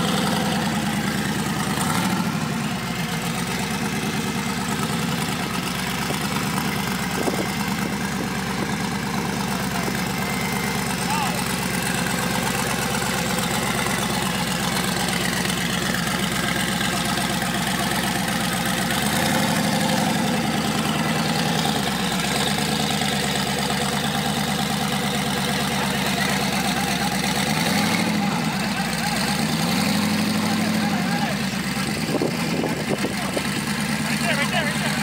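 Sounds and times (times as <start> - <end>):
car engines idling: 0.0 - 35.0.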